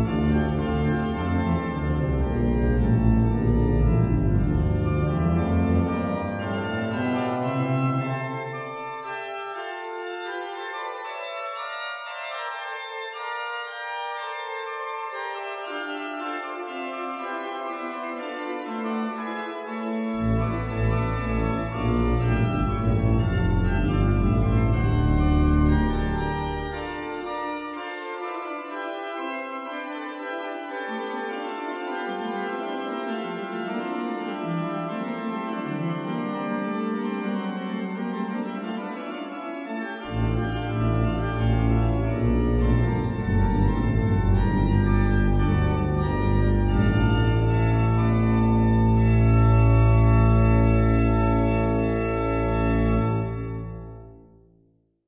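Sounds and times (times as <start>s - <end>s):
deep organ pedal bass notes: 0.0s - 11.2s, 16.8s - 29.2s, 30.7s - 54.2s
church organ playing chords: 0.0s - 54.5s.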